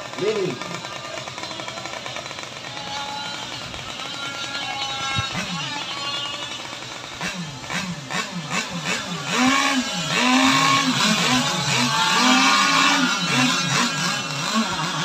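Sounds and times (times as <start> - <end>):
racing boat engines whining: 0.0 - 15.0.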